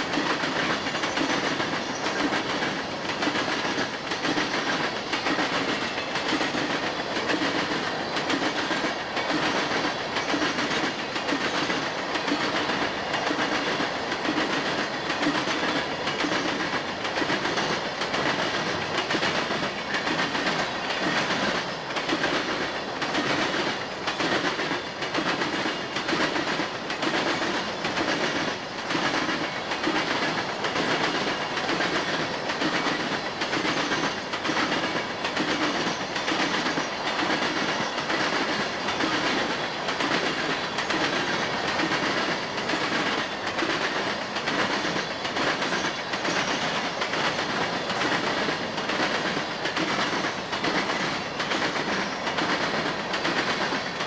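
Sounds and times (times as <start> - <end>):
freight train cars rumbling: 0.0 - 54.0
wheels clacking over rail joints: 0.0 - 54.0.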